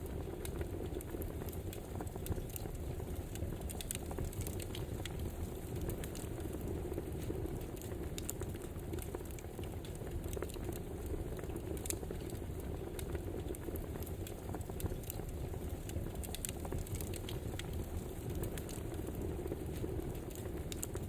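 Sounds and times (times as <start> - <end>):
burning wood crackling: 0.0 - 21.0
flames rushing: 0.0 - 21.0.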